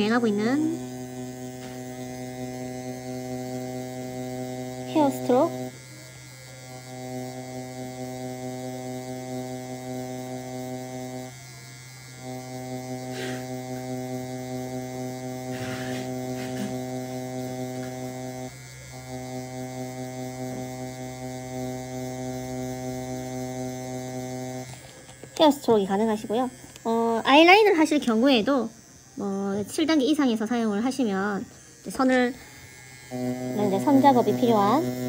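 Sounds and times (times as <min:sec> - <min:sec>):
permanent-makeup machine buzzing: 0:00.0 - 0:35.0.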